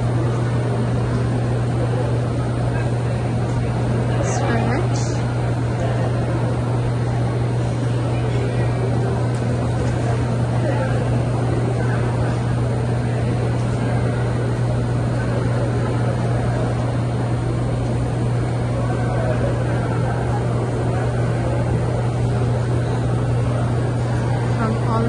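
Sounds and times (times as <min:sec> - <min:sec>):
faint background murmur: 0:00.0 - 0:25.0
low mechanical hum of machinery: 0:00.0 - 0:25.0.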